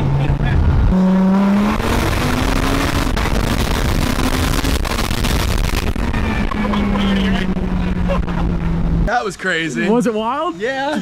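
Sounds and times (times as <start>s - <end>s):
car engine at highway speed: 0.0s - 11.0s
wind and road noise: 0.0s - 11.0s.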